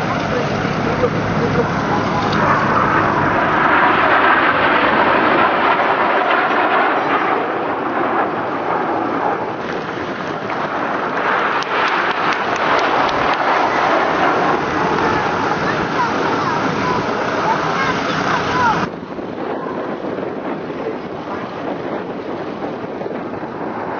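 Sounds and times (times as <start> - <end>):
aircraft engine rush: 0.0 - 23.9.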